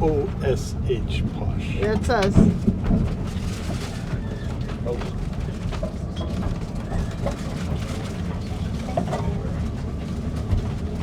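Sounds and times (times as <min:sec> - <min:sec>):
train carriage rumbling: 0:00.0 - 0:11.0
wheels rattling and clicking: 0:01.8 - 0:11.0.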